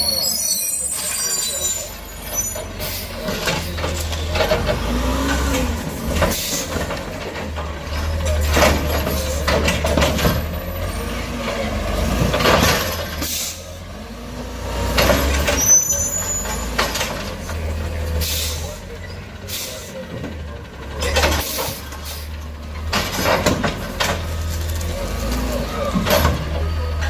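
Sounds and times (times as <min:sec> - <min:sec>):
garbage truck engine rumble: 0:00.0 - 0:27.0
clanks: 0:01.0 - 0:13.6, 0:14.8 - 0:27.0.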